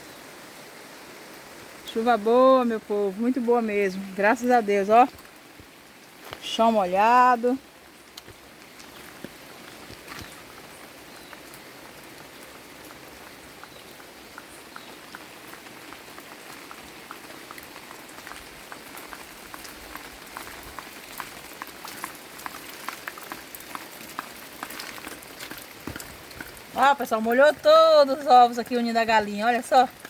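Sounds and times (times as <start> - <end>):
rain falling: 0.0 - 30.0
raindrops ticking: 1.7 - 30.0.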